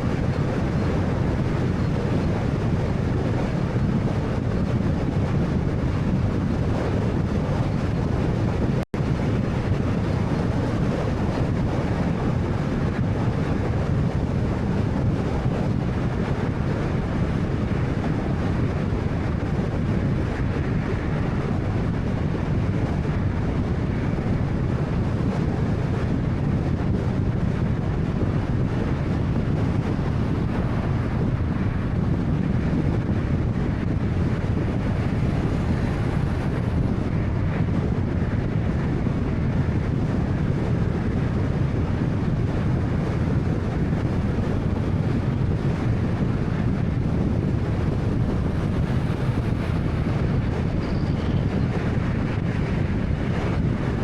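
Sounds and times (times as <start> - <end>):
car road and tyre noise: 0.0 - 54.0.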